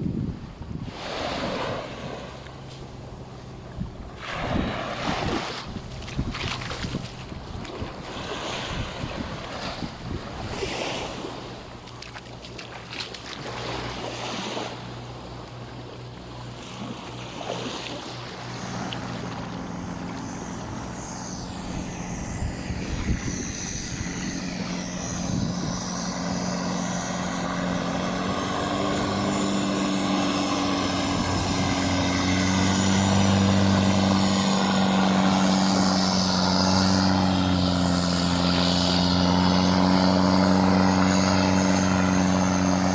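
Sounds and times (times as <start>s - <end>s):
engine drone: 0.0s - 42.9s
surf on the shore: 0.0s - 42.9s
wind: 0.0s - 42.9s.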